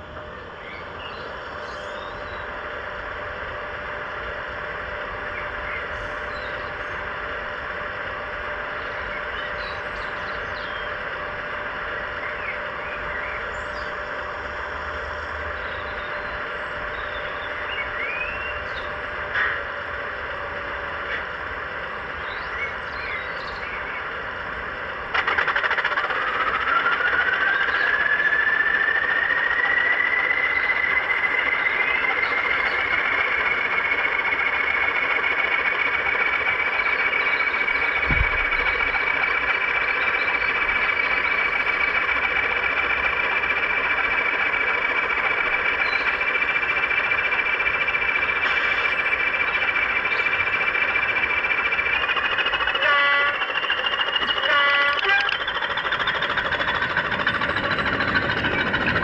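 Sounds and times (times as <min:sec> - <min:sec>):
model locomotive engine humming: 0:00.0 - 0:59.0
rising engine whine: 0:00.0 - 0:59.0.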